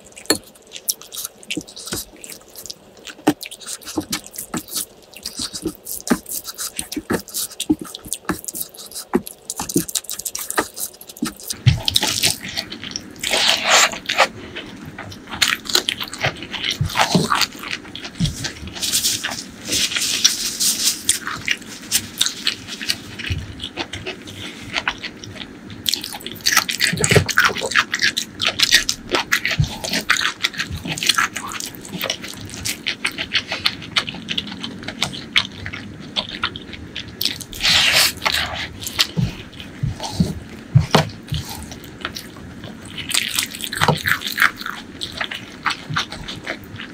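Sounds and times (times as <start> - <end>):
crunchy chewing: 0.0 - 46.9
hand scrunching crackling food: 0.0 - 46.9.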